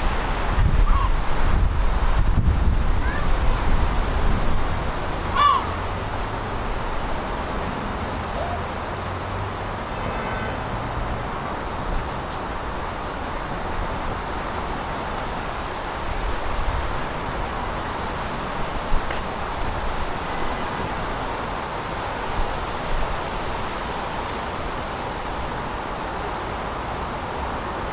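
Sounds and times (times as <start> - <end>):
distant traffic noise: 0.0 - 27.9.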